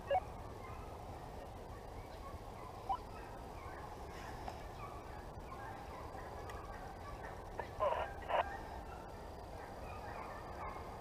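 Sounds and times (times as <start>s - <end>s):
distant hounds baying: 0.0s - 11.0s.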